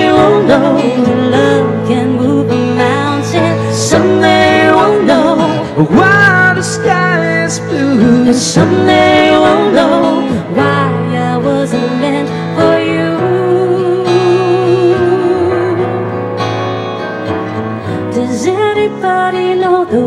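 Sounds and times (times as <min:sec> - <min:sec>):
woman singing: 0:00.0 - 0:16.2, 0:17.9 - 0:20.0
acoustic guitar: 0:00.0 - 0:20.0
grand piano: 0:00.0 - 0:20.0.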